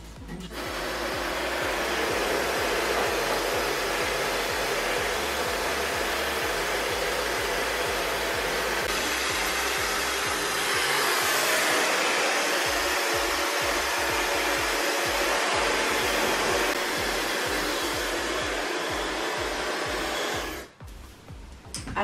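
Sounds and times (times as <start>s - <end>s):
hair dryer blowing: 0.5s - 20.8s.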